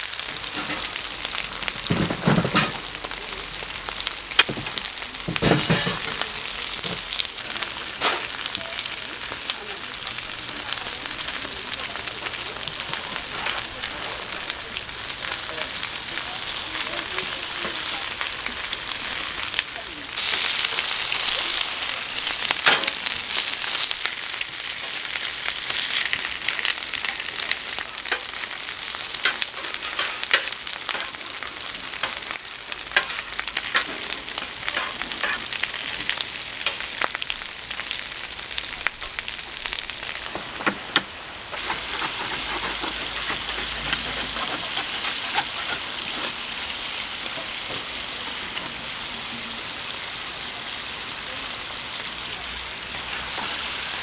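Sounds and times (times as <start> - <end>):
meat sizzling on a griddle: 0.0 - 54.0.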